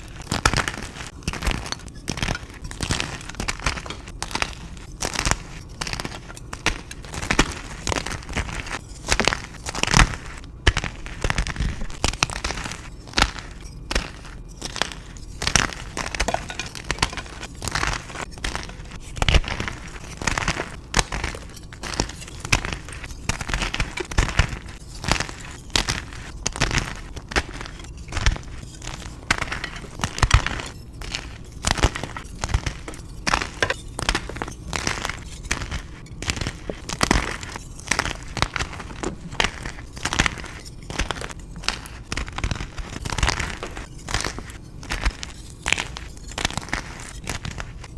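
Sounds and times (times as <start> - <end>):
chalk crunching: 0.0 - 47.9.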